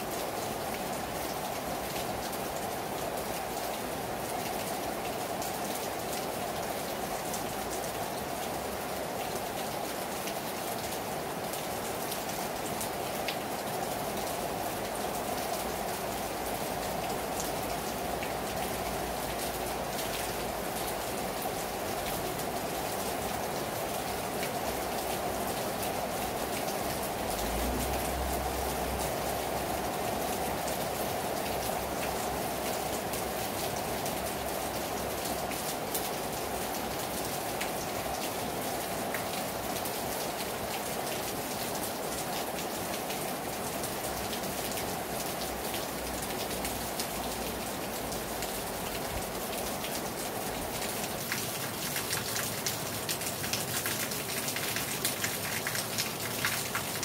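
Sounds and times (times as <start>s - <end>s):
heavy rain on a terrace: 0.0s - 57.0s.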